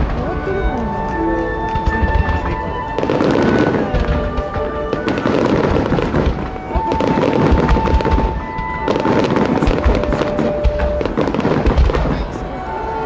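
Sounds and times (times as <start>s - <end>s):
fireworks crackling and booming: 0.0s - 13.0s
music with long held notes: 0.0s - 13.0s.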